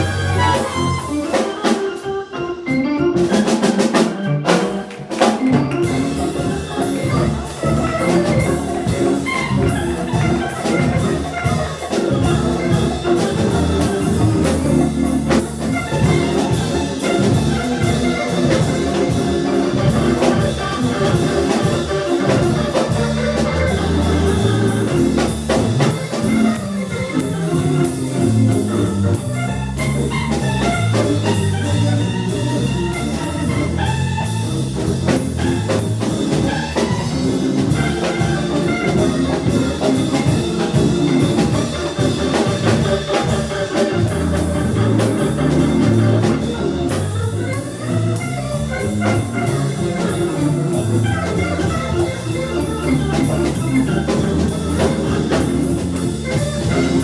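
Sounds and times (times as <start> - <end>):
bass line: 0.0 - 1.6, 5.2 - 57.0
drum kit: 0.0 - 57.0
organ-like keyboard chords: 0.0 - 57.0.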